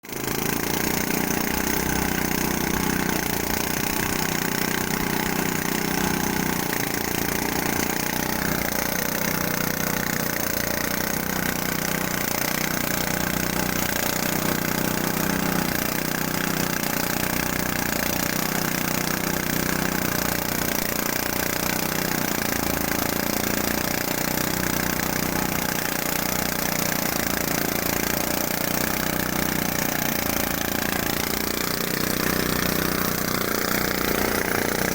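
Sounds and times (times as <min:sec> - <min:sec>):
threshing machine droning: 0:00.0 - 0:34.9.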